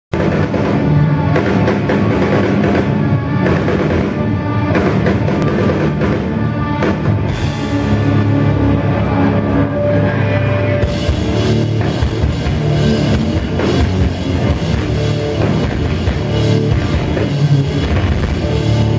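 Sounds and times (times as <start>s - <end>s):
live heavy rock band: 0.1s - 18.9s.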